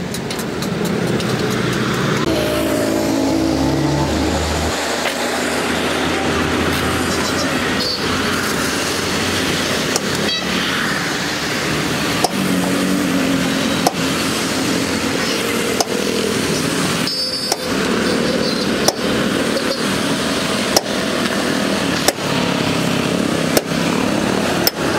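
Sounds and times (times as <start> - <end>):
street traffic noise: 0.0 - 24.9.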